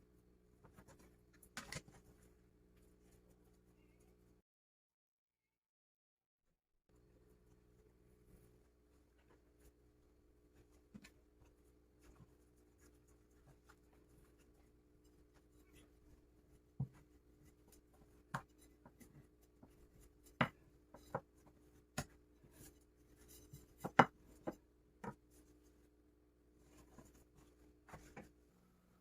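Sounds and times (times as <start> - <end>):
faint steady hum: 0.0 - 4.4, 6.9 - 29.0.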